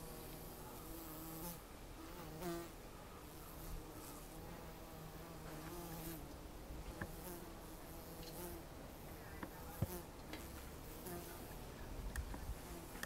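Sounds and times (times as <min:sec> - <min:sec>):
bees buzzing: 0:00.0 - 0:11.9.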